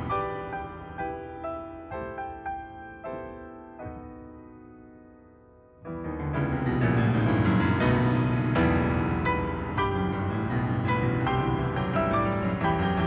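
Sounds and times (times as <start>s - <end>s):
piano duet: 0.0s - 13.0s.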